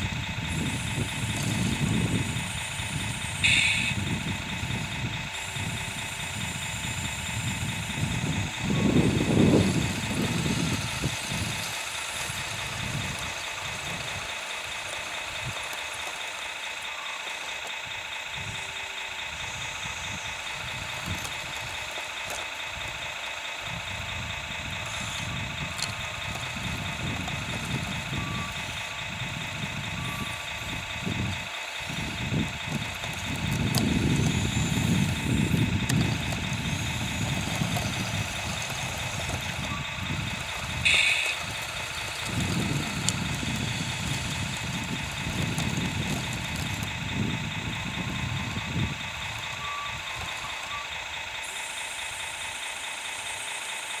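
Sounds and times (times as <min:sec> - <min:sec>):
low rumble: 0:00.0 - 0:53.3
model loader mechanical whine: 0:00.0 - 0:54.0.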